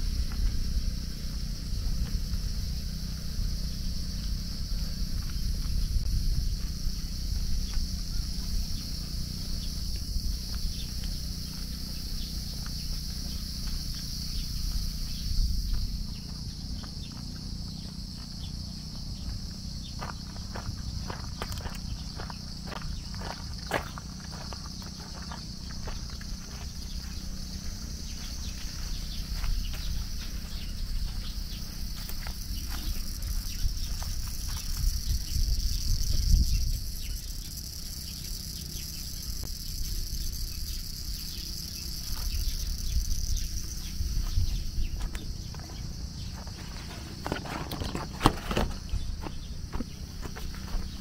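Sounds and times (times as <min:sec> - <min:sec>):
faint footsteps on a path: 0:00.0 - 0:36.6, 0:41.5 - 0:51.0
insects droning: 0:00.0 - 0:51.0.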